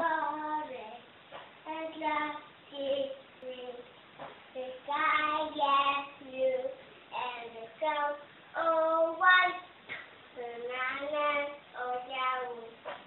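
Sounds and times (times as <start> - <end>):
girl singing unaccompanied: 0.0 - 13.0.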